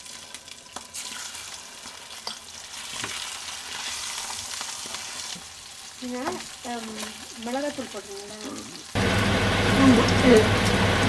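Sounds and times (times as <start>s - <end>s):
curry sizzling and bubbling in pan: 0.0s - 11.0s.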